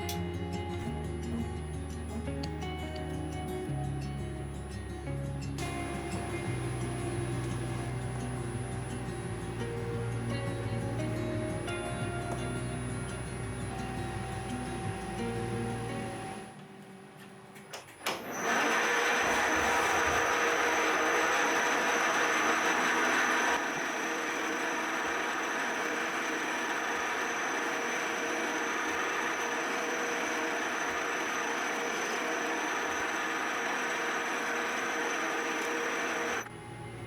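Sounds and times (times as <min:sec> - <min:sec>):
milling machine running: 0:00.0 - 0:16.8, 0:18.0 - 0:37.0
constant high whine: 0:00.0 - 0:37.0.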